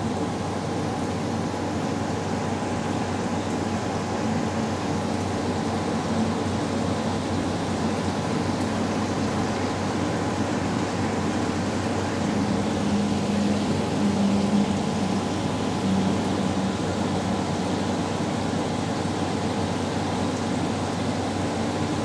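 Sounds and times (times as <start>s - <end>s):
mechanical hum with hiss: 0.0s - 22.0s.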